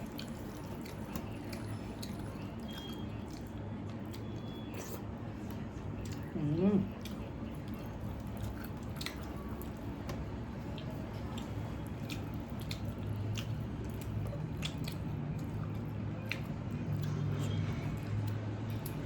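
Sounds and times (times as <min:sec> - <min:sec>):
person chewing wet food: 0:00.0 - 0:19.0.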